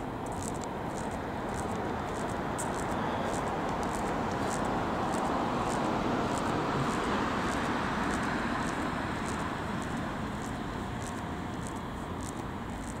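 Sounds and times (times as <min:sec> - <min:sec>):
vehicle passing: 0:00.0 - 0:13.0.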